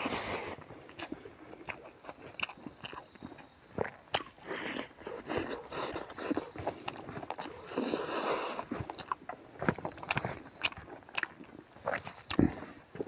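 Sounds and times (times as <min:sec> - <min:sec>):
man chewing with wet smacks: 0:00.0 - 0:13.0.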